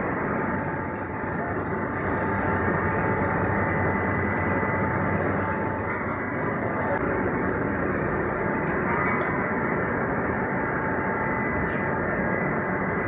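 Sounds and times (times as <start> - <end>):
production line machinery drone: 0.0 - 13.0.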